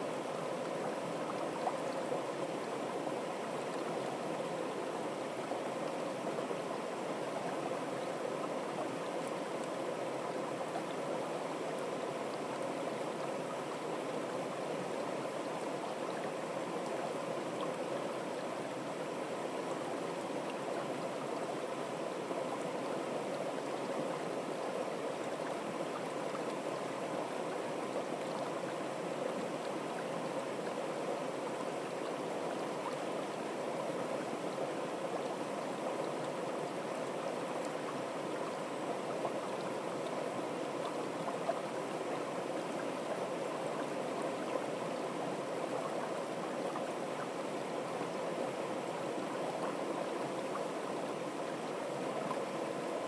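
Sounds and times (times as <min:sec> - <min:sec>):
stream rushing over rocks: 0:00.0 - 0:53.0.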